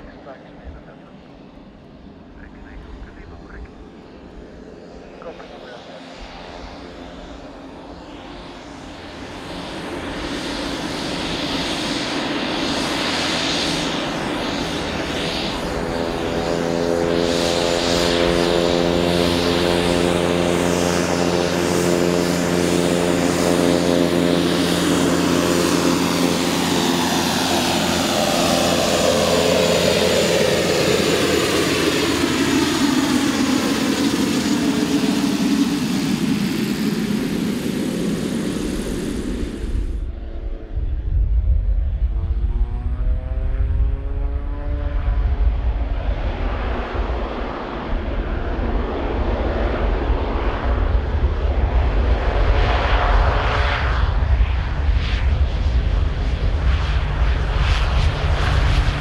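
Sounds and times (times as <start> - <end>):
turboprop engine and propeller drone: 0.0 - 59.0.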